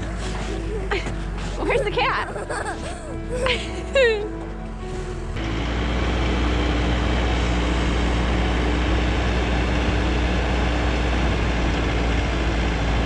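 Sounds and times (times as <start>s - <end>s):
heavy machinery engine rumbling: 0.0s - 13.0s.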